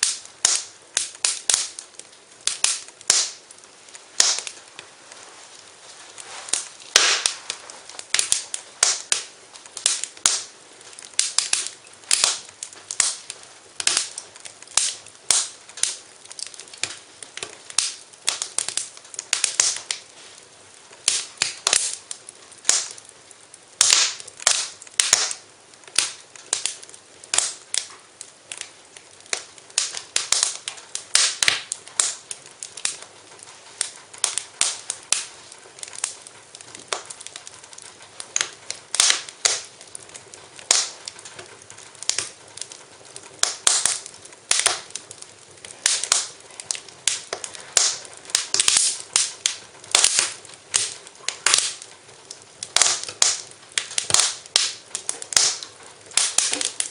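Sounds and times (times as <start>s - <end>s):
soft fire hiss: 0.0s - 56.9s
wood fire crackling: 0.0s - 56.9s.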